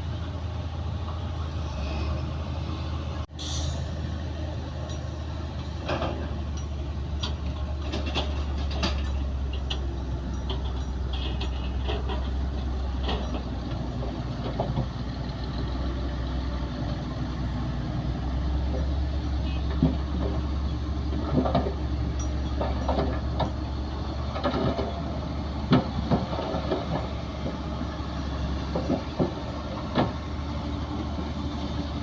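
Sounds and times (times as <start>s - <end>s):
diesel engine running: 0.0s - 32.0s
tracks clanking and rattling: 3.6s - 32.0s.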